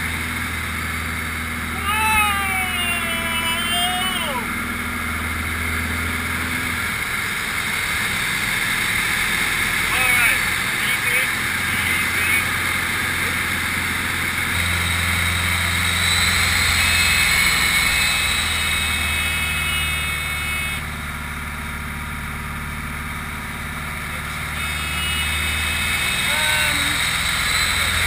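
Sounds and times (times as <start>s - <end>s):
propeller aircraft engine droning: 0.0s - 28.0s.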